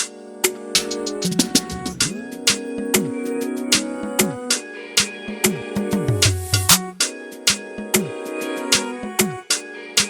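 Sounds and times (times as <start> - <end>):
background music with drum beat: 0.0 - 9.7.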